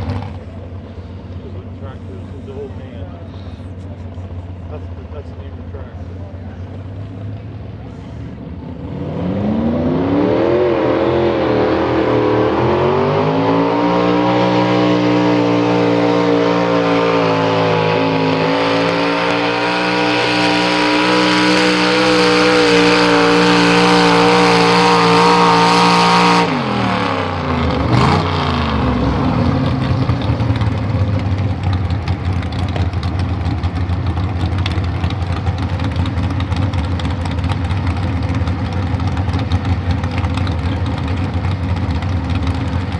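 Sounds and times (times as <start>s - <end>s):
tractor engine revving: 0.0s - 42.9s.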